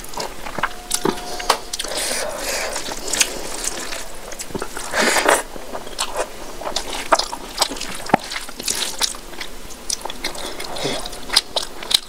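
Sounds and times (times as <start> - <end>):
wet chewing and mouth sounds: 0.0 - 12.0.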